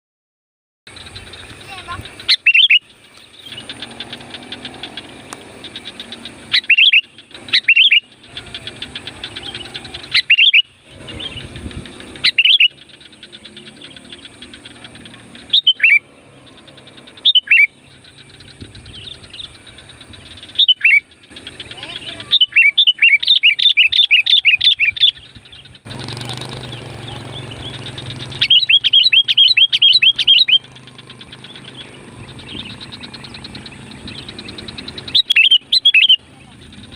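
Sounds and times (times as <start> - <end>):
bird calling: 0.9 - 36.9.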